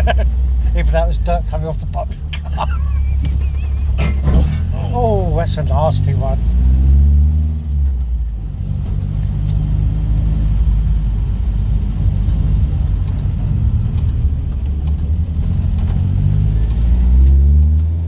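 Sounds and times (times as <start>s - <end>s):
car engine drone inside car: 0.0s - 18.0s
road rumble: 0.0s - 18.0s.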